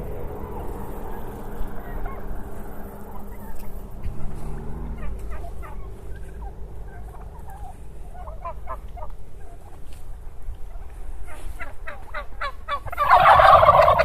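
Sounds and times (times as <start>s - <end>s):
turkeys gobbling: 0.6s - 14.0s.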